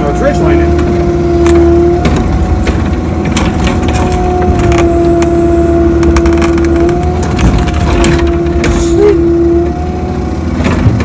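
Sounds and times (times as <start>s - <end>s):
excavator engine and hydraulic whine: 0.0s - 11.0s.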